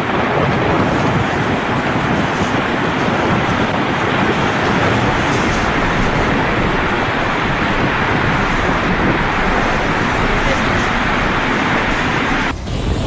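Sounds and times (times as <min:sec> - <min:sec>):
blizzard wind buffeting microphone: 0:00.0 - 0:13.0.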